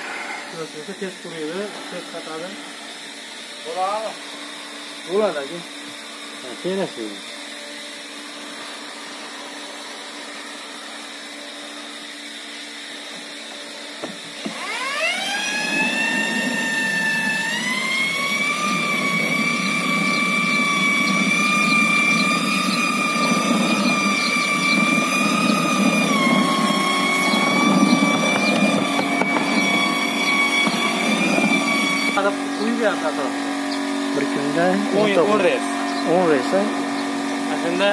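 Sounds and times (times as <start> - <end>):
electric paddle mixer whining: 0.0 - 37.9
steady low hum: 0.0 - 37.9.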